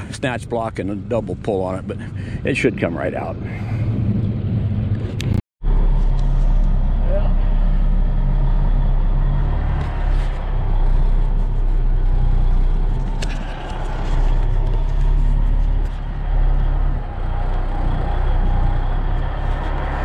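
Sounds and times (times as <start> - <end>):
diesel engine running steadily: 0.0 - 20.0.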